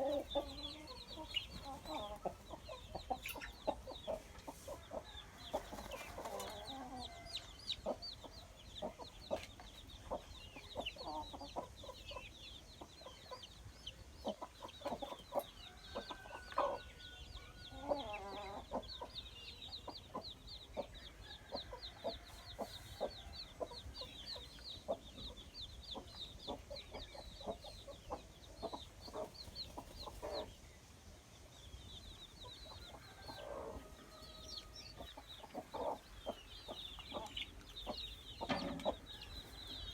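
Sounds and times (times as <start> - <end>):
chickens clucking: 0.0 - 39.9
chicks cheeping: 0.0 - 39.9.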